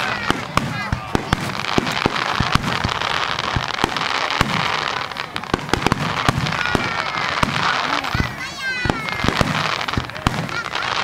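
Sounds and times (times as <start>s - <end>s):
crackling hiss: 0.0s - 11.0s.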